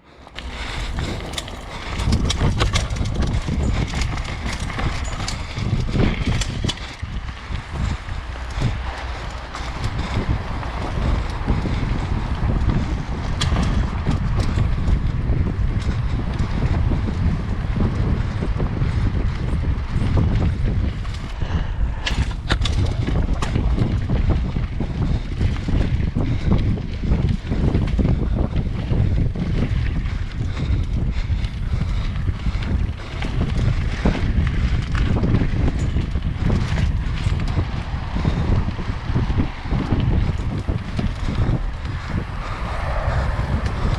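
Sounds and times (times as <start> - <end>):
bike clicking and rattling: 0.0 - 43.9
bike tyres rumbling on dirt: 0.0 - 43.9
wind buffeting microphone: 0.0 - 43.9.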